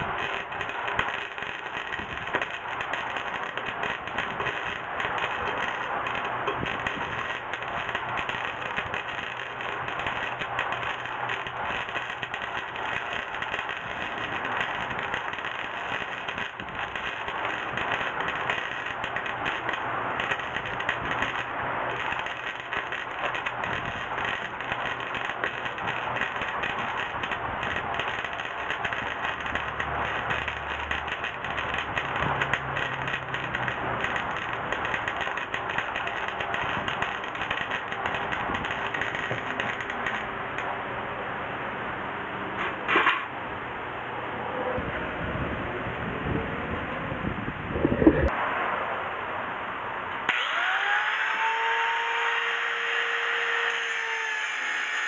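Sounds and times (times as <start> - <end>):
arc welder crackling: 0.0 - 40.8, 50.3 - 55.0.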